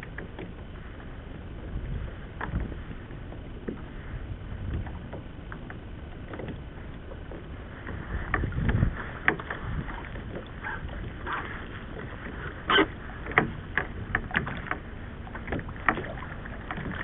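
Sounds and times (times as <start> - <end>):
waves slapping against a hull: 0.0 - 17.0
wind rumbling on microphone: 0.0 - 17.0.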